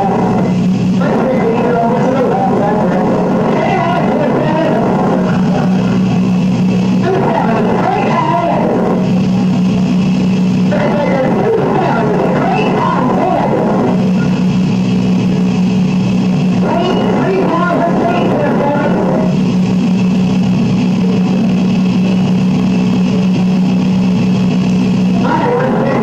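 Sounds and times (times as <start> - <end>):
low drone: 0.0 - 26.0.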